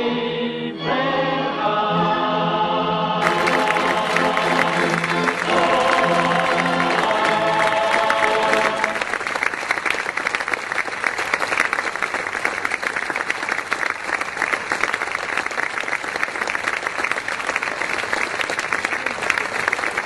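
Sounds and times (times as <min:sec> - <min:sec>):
crowd applauding: 0:03.2 - 0:20.0.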